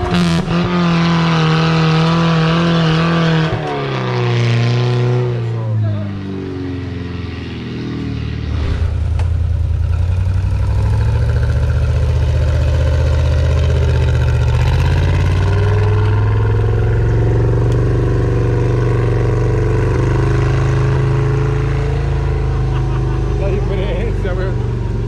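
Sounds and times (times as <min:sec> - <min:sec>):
engine revving under load: 0:00.0 - 0:25.0.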